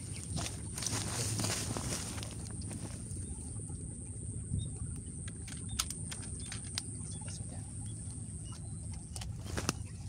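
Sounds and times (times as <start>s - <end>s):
small birds chirping: 0.0s - 3.9s, 4.5s - 10.0s
steady high-pitched whine: 0.0s - 10.0s.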